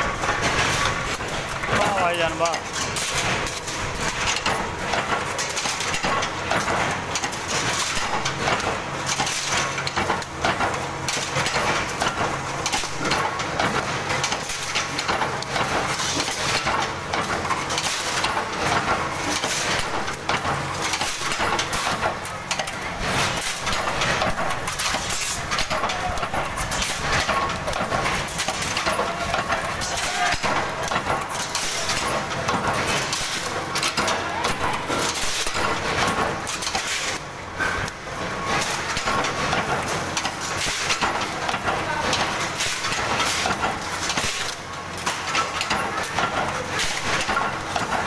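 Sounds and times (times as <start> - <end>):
power press clattering metal: 0.0 - 48.0.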